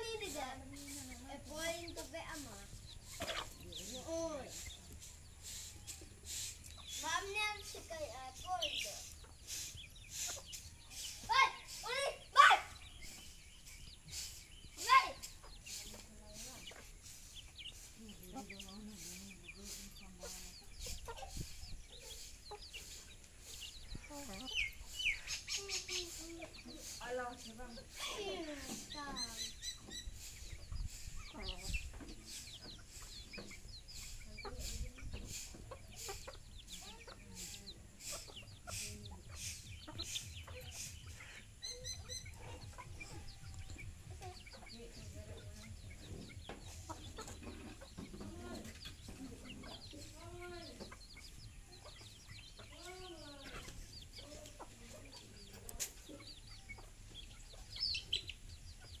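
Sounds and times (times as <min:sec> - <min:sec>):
chickens clucking: 0:00.0 - 0:59.0
chicks peeping: 0:00.0 - 0:59.0.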